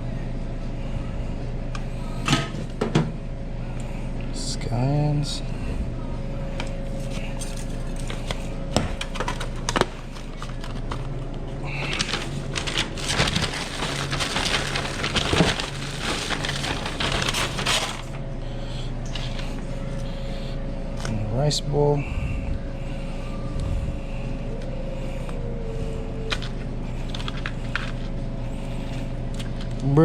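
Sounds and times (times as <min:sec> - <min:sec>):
kitchen equipment hum: 0:00.0 - 0:30.0.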